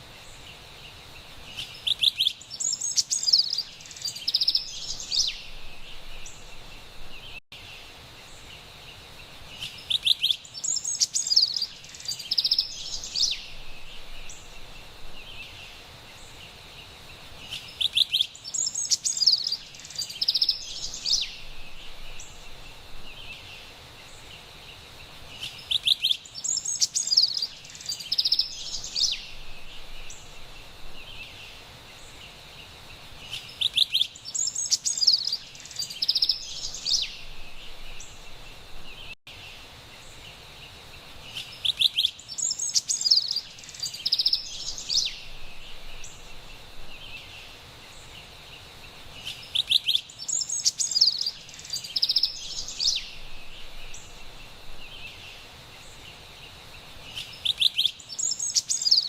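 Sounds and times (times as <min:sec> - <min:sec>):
wren singing: 0:01.5 - 0:07.4, 0:09.5 - 0:16.4, 0:17.4 - 0:24.4, 0:25.3 - 0:32.2, 0:33.2 - 0:39.2, 0:41.3 - 0:59.0.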